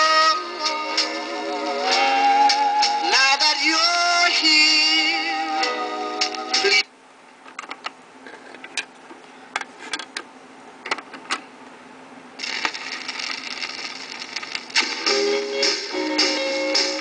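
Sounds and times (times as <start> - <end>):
faint steady hum: 0.0 - 17.0
record surface noise hiss: 0.0 - 17.0.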